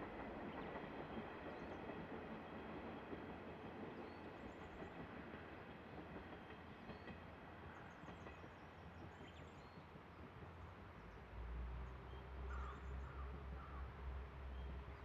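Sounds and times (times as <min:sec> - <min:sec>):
distant railcar rumble: 0:00.0 - 0:15.0.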